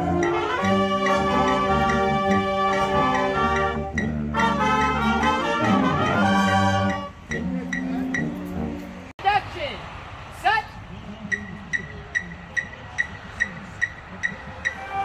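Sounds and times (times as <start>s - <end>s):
marching band holding chords: 0.0s - 9.1s, 11.2s - 15.0s.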